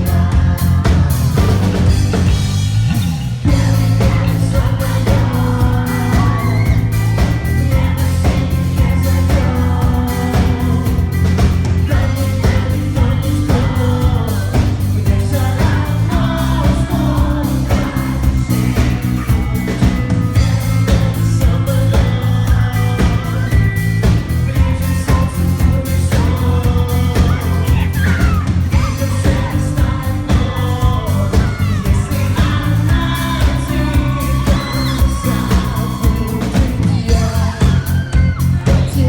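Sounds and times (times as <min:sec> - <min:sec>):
beat with heavy bass: 0:00.0 - 0:39.0
male vocal group singing pop: 0:00.0 - 0:39.0.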